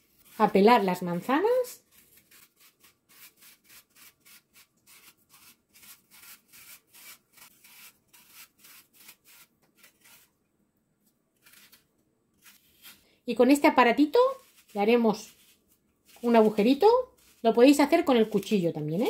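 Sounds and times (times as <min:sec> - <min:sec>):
blade scraping apple skin: 0:00.0 - 0:10.4, 0:11.4 - 0:19.0.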